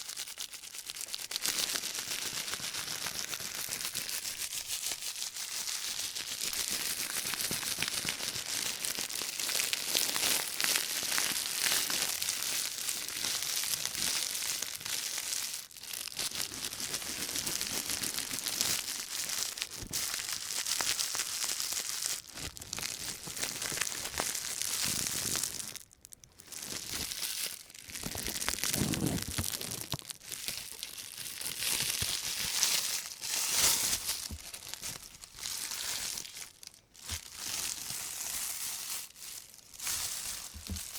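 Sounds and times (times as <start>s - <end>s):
plastic bag crinkling: 0.0s - 40.9s.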